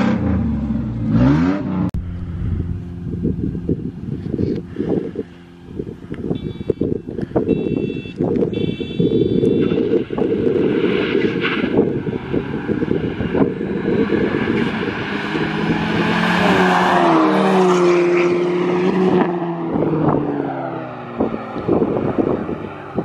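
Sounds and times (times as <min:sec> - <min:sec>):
cars passing at speed: 0:00.0 - 0:23.0
wind rumble on microphone: 0:02.0 - 0:16.3, 0:18.3 - 0:23.0.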